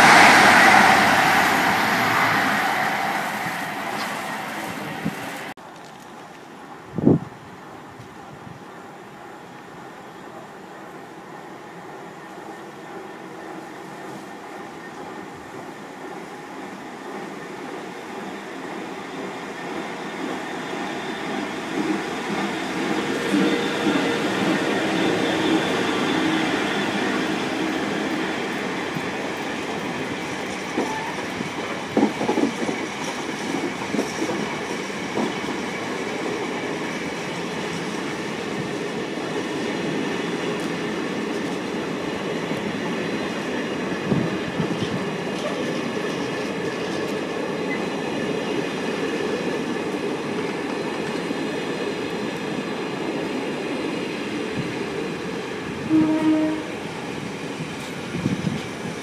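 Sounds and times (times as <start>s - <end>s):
rumble of wheels on rail: 0.0s - 59.0s.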